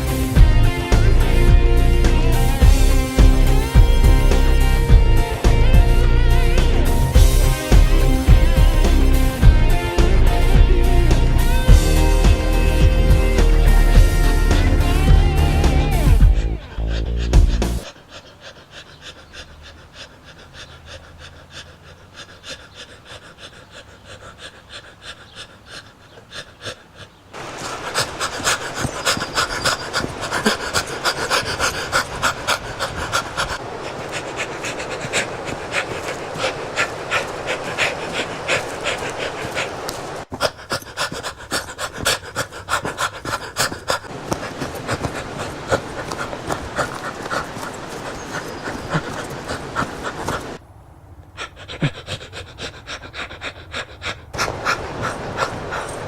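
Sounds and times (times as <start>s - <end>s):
man panting while running: 0.0s - 50.6s, 51.4s - 56.0s.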